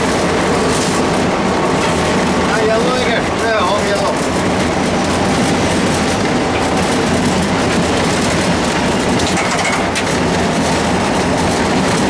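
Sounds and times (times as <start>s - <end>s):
diesel engine chugging: 0.0s - 12.0s
wheel and rail noise: 0.0s - 12.0s.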